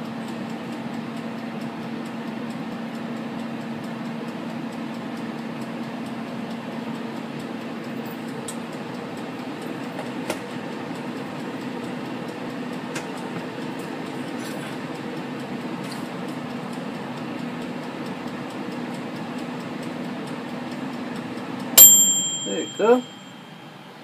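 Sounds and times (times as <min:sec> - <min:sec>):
air fryer fan whirring: 0:00.0 - 0:24.0.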